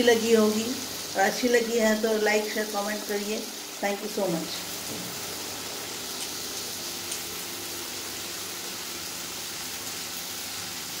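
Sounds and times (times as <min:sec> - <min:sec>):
kitchen background hiss: 0:00.0 - 0:11.0.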